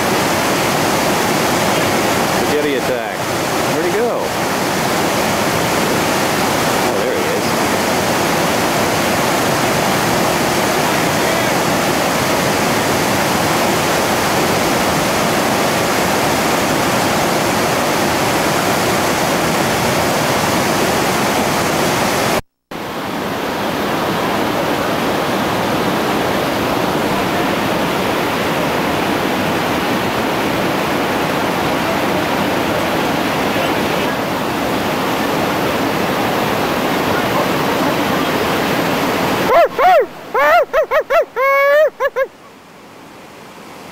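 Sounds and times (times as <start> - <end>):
whitewater rapid roaring: 0.0 - 43.9.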